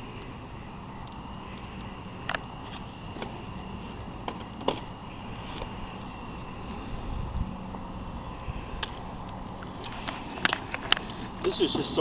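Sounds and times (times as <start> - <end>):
campfire crackling: 0.0 - 12.0
fire hissing: 0.0 - 12.0
low wind rumble: 0.0 - 12.0.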